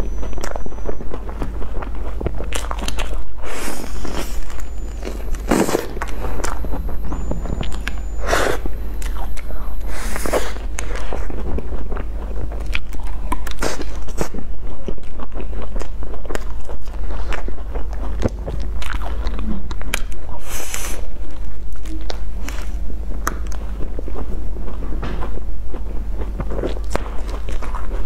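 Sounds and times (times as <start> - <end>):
biting and chewing pastry: 0.0 - 28.0.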